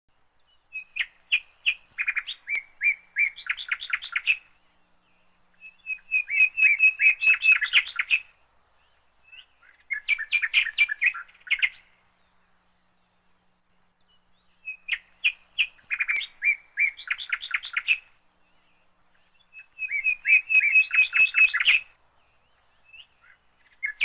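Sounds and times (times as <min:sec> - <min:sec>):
small bird singing: 0:00.1 - 0:24.0.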